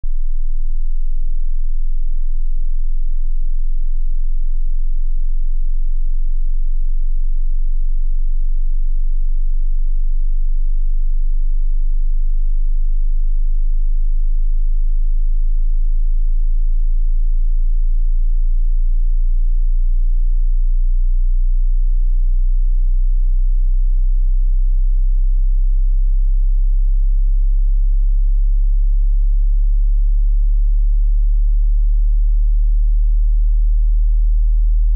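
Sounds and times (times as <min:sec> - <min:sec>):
low sine wave tone sweeping upward: 0:00.0 - 0:34.9.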